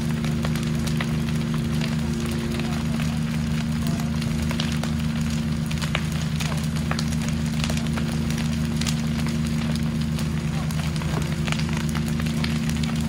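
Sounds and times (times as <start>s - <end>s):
fire crackling and popping: 0.0s - 13.0s
steady low hum: 0.0s - 13.0s.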